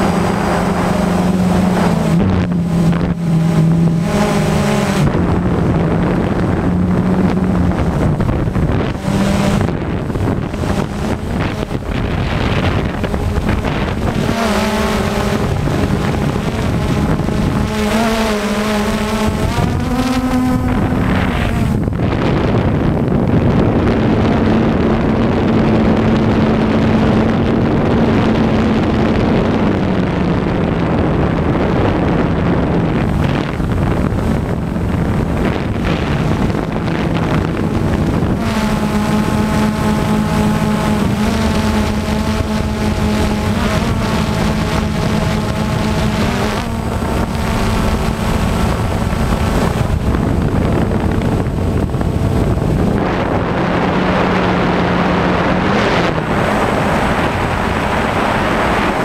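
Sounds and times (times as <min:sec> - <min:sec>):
drone propellers whirring: 0:00.0 - 0:59.0
wind noise on microphone: 0:00.0 - 0:59.0.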